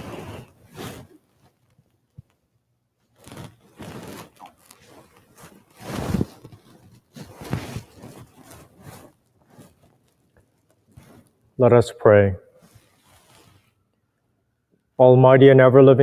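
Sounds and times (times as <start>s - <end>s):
cloth rustling and scraping: 0.0s - 11.5s, 12.6s - 14.6s.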